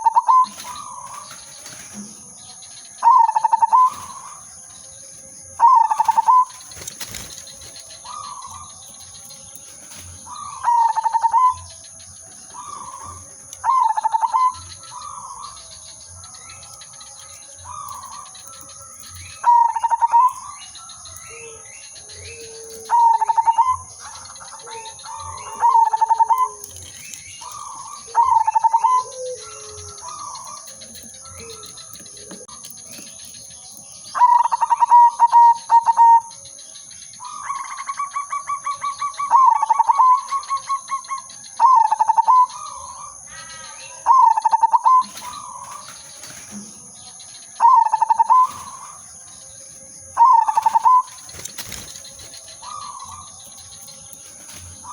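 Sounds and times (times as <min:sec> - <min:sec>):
dove cooing: 0:00.0 - 0:02.3, 0:03.0 - 0:04.5, 0:05.6 - 0:11.9, 0:12.5 - 0:15.9, 0:17.0 - 0:20.6, 0:21.3 - 0:36.4, 0:37.2 - 0:49.0, 0:49.7 - 0:54.9.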